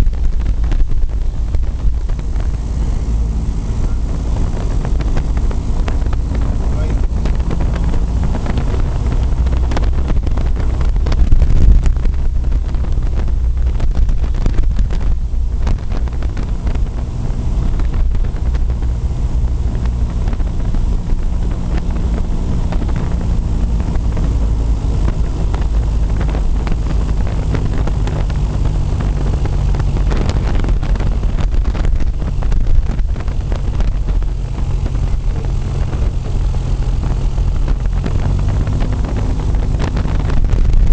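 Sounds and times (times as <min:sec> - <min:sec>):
propeller plane engine droning: 0:00.0 - 0:40.9
wind buffeting microphone: 0:00.0 - 0:40.9.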